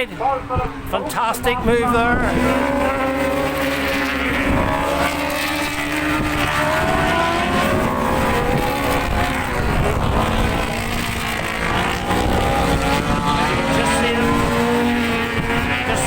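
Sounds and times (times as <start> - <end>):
racing motorcycle engines revving: 0.0 - 16.0
wind on microphone: 0.2 - 16.0.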